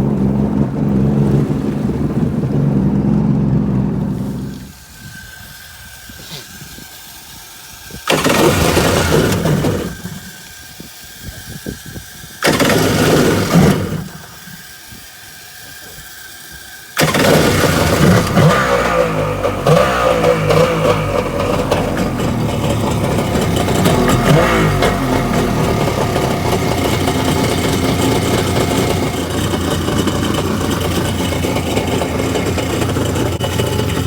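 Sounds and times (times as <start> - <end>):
jet ski engine starting and dying: 0.0 - 34.0.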